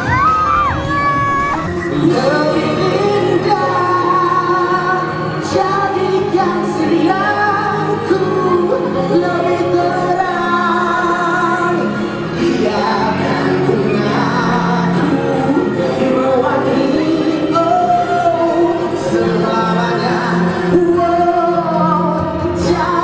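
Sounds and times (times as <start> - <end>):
steady musical accompaniment: 0.0 - 23.0.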